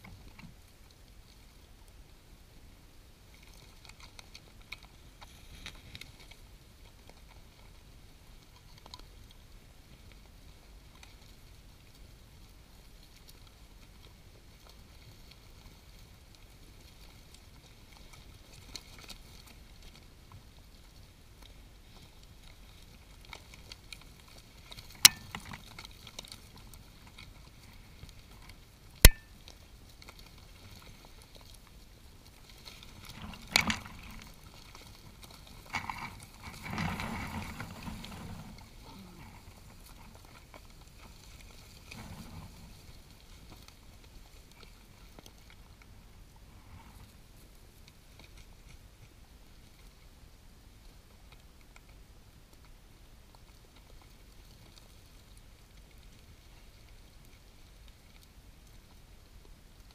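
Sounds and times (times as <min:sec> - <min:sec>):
vultures scuffling and rustling: 0:03.2 - 0:59.9.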